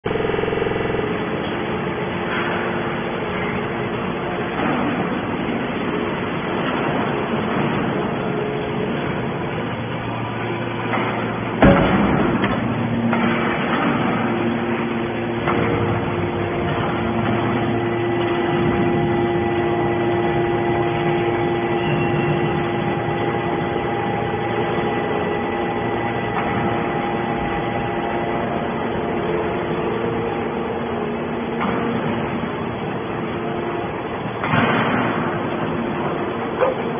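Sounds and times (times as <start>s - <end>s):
hydraulic baler humming: 0.0s - 36.9s.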